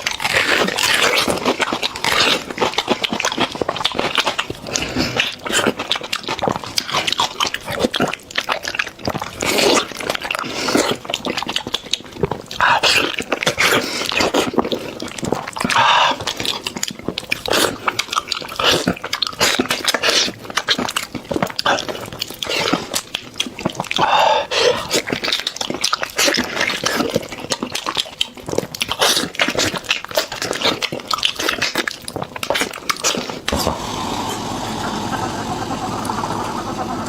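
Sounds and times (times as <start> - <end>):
wet chewing and lip-smacking: 0.0 - 37.0.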